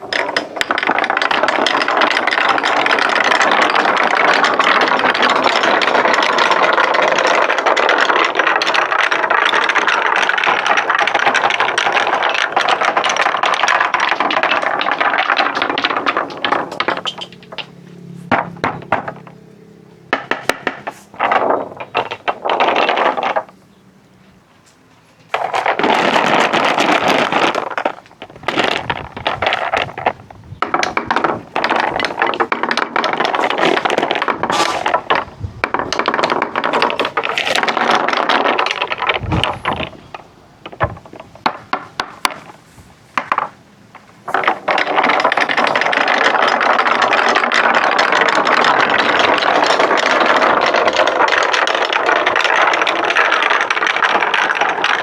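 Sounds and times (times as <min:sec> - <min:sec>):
marble clicks and knocks: 0:00.0 - 0:23.9, 0:25.2 - 0:55.0
marbles rolling on wooden track: 0:00.0 - 0:23.9, 0:25.2 - 0:55.0.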